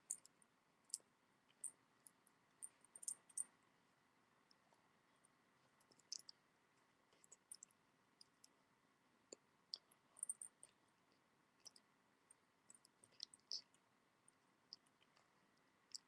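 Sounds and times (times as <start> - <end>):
faint sharp clicks and taps: 0.0 - 3.7, 4.4 - 8.6, 9.3 - 16.0.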